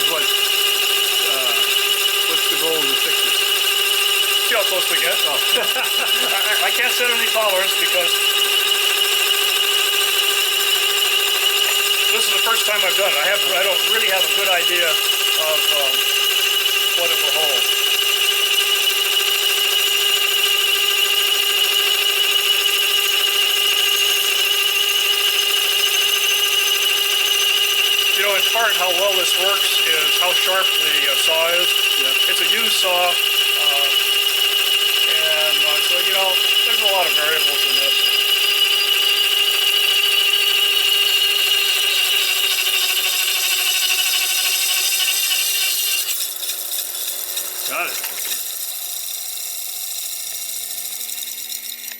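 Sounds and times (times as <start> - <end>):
lathe saw whine: 0.0 - 51.9.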